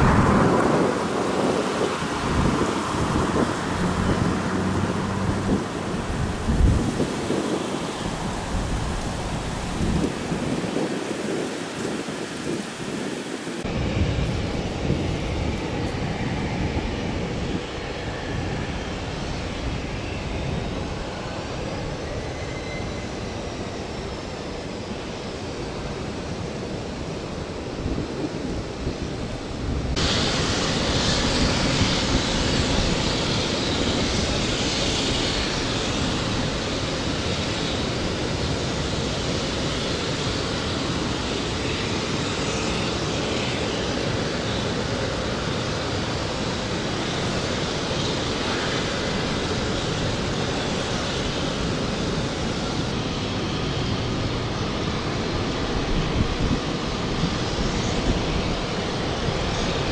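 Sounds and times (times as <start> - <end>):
jet aircraft engine running: 0.0 - 59.9.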